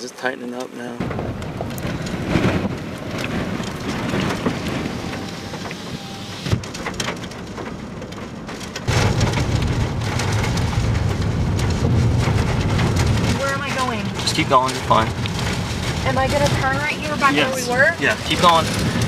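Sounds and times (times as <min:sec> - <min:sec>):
rain pattering on a vehicle: 0:00.1 - 0:19.0
low rumble: 0:01.0 - 0:19.0.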